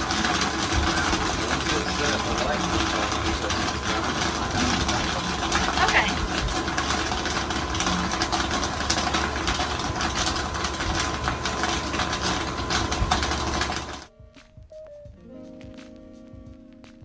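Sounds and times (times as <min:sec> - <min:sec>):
popcorn machine hum: 0:00.0 - 0:14.1
popcorn popping: 0:00.0 - 0:14.1.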